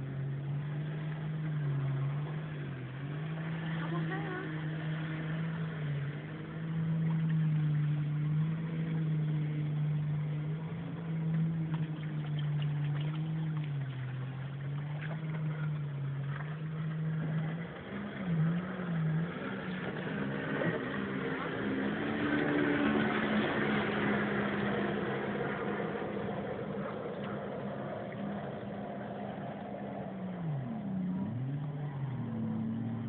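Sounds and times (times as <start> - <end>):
jet ski engine running: 0.0 - 33.0.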